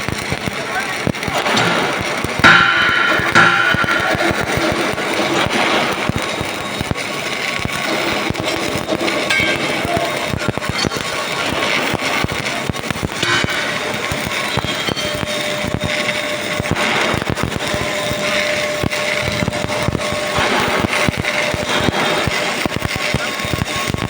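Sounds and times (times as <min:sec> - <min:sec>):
welding arc crackling: 0:00.0 - 0:24.0.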